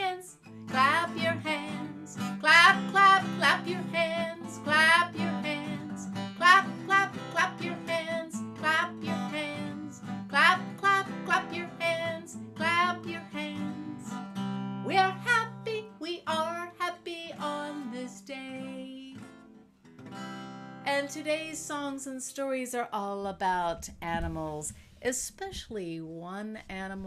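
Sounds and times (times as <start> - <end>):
woman singing: 0.0 - 14.2, 14.8 - 19.4, 20.9 - 24.5.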